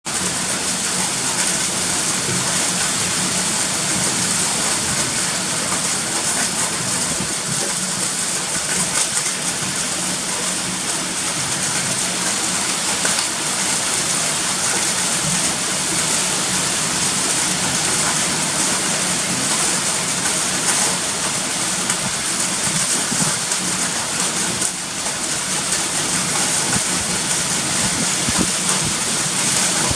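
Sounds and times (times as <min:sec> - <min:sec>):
wind-driven rain: 0:00.1 - 0:29.9.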